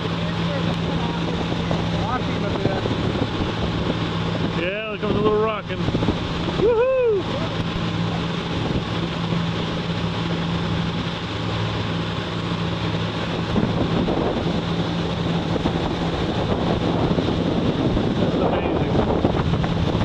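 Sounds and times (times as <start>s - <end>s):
boat engine humming: 0.0s - 20.0s
water rushing past hull: 0.0s - 20.0s
wind buffeting microphone: 0.0s - 20.0s.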